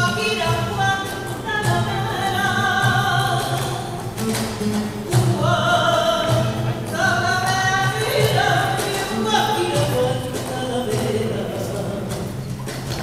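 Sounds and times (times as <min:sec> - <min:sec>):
woman singing: 0:00.0 - 0:04.0, 0:05.1 - 0:12.2
flamenco guitar: 0:00.0 - 0:13.0.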